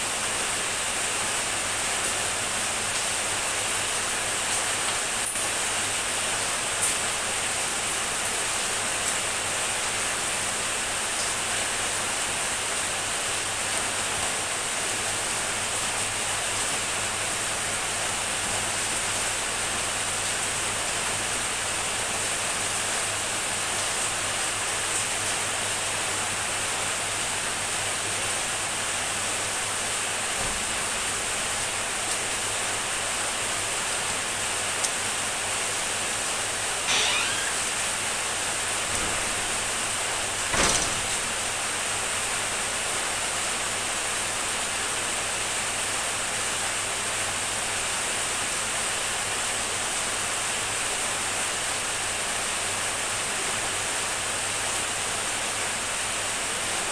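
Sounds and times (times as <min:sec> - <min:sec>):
heavy rain hissing: 0:00.0 - 0:56.8.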